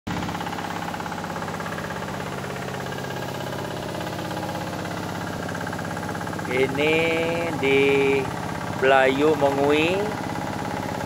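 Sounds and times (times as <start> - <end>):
hand tractor engine chugging: 0.1 - 11.0.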